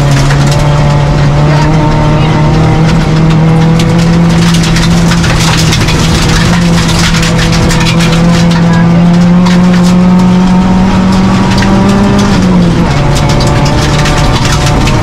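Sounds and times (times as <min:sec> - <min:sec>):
car engine pulling hard: 0:00.0 - 0:15.0
gravel hitting car underside: 0:00.0 - 0:15.0.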